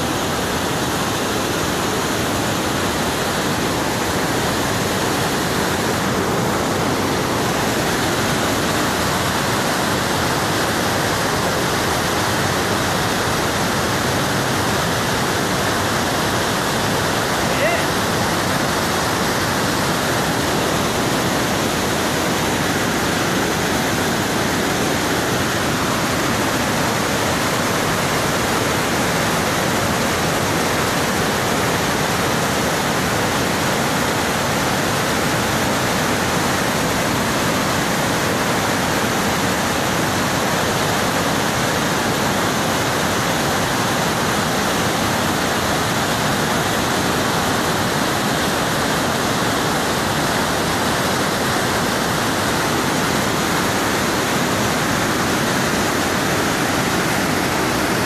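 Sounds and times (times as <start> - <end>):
water rushing over waterfall: 0.0 - 58.0.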